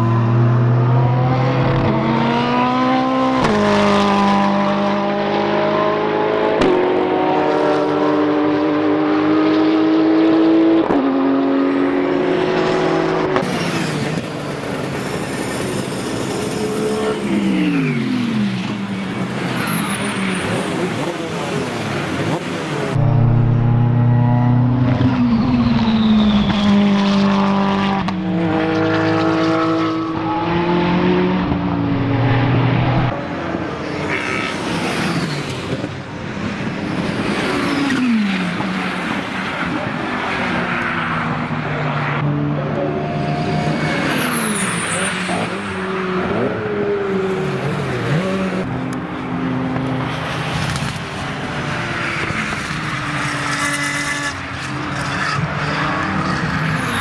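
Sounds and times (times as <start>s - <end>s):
race cars passing at speed: 0.0s - 57.0s.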